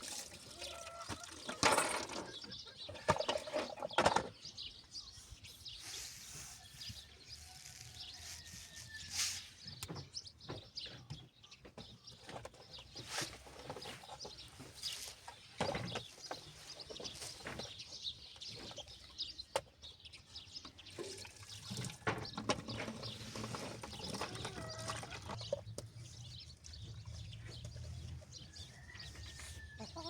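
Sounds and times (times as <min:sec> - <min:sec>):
chickens clucking: 0:00.0 - 0:05.5, 0:09.8 - 0:30.0.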